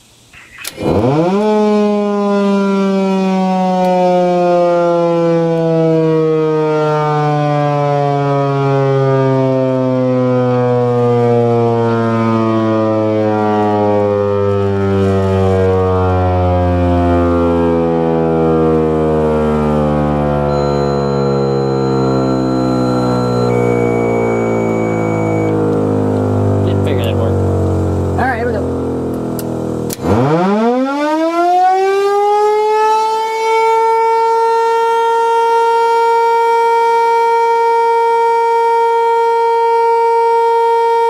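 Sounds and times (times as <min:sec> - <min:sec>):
tornado siren winding down: 0:00.4 - 0:41.0.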